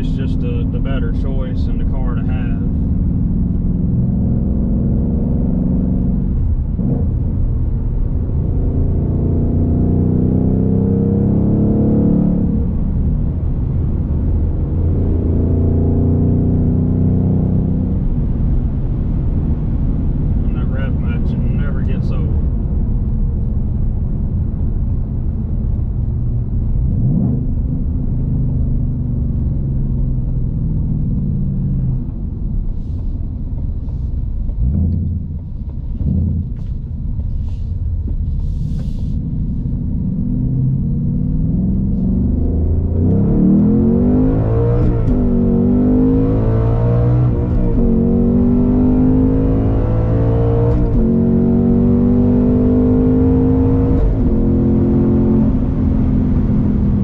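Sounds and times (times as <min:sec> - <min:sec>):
car engine revving through gears: 0:00.0 - 0:18.4, 0:26.8 - 0:32.1, 0:33.6 - 0:37.6, 0:38.2 - 0:57.0.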